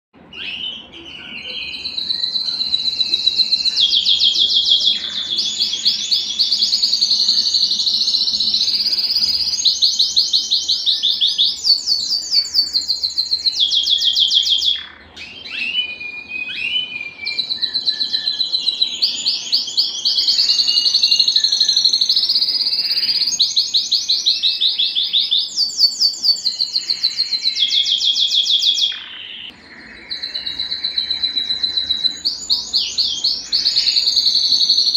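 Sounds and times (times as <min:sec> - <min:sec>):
canary singing trilled song: 0:00.2 - 0:34.9.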